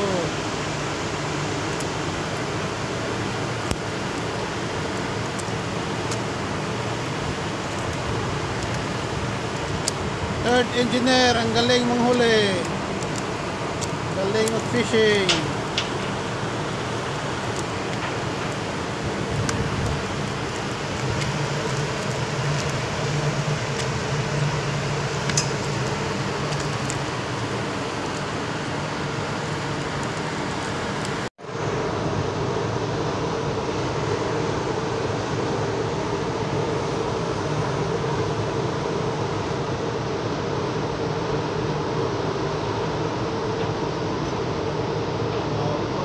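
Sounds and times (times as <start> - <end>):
ship machinery drone: 0.0 - 46.0.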